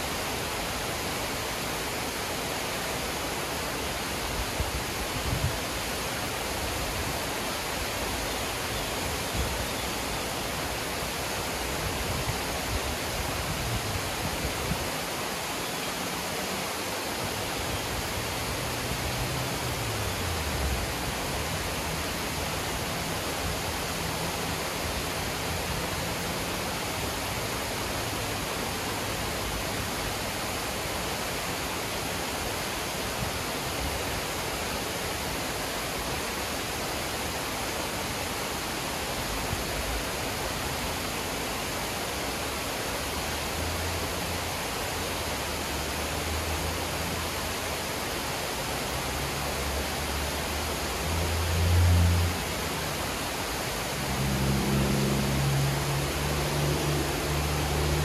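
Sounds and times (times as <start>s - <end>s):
water rushing over spillway: 0.0s - 58.0s.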